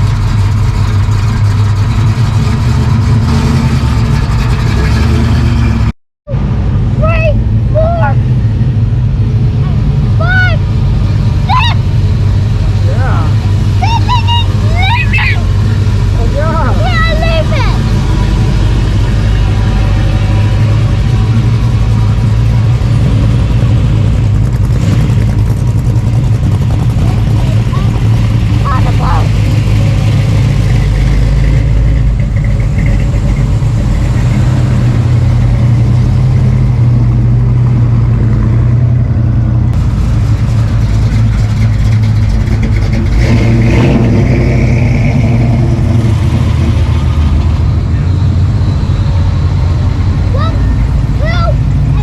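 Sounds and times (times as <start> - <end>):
car engine running: 0.0 - 52.0.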